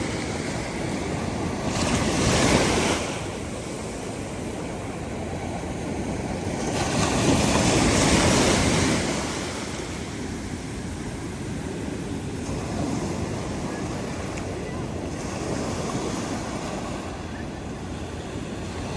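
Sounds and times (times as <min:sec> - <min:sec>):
ocean waves washing: 0:00.0 - 0:18.9.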